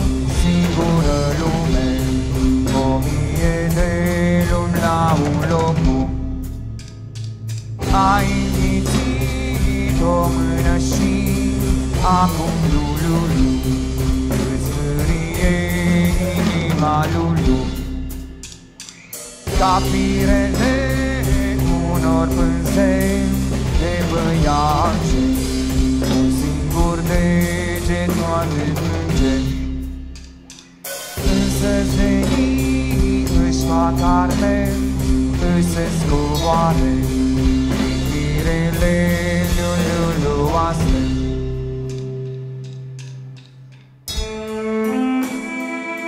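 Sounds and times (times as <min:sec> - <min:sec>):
live band playing: 0:00.0 - 0:46.0.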